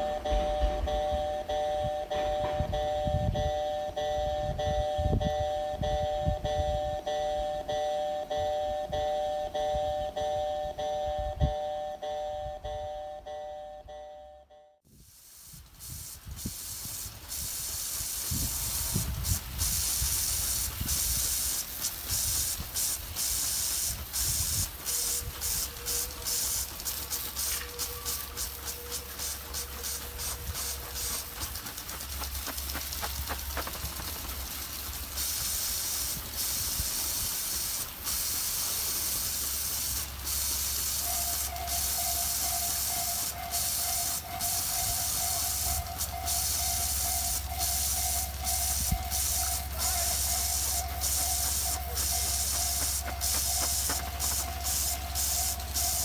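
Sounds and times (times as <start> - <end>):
train approaching with hiss and rumble: 0.0 - 14.2, 14.9 - 56.0.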